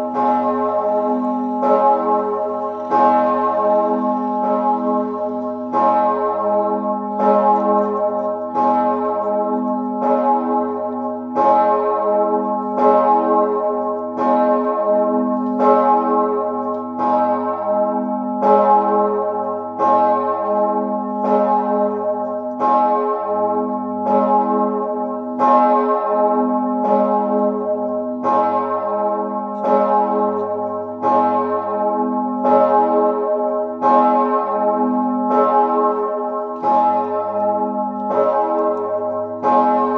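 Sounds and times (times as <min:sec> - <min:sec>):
large church bell tolling: 0:00.0 - 0:39.9.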